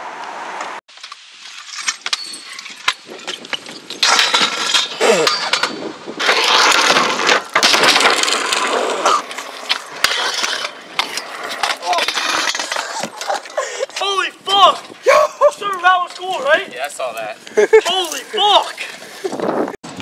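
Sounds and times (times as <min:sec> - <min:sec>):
scooter wheels rolling on concrete: 0:00.3 - 0:20.0
scooter clacks and scrapes: 0:00.6 - 0:15.0, 0:15.6 - 0:20.0.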